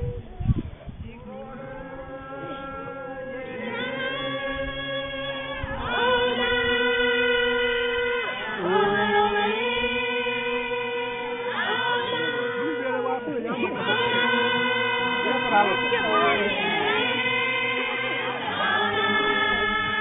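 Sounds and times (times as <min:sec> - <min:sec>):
choir singing held notes: 0:01.2 - 0:20.0.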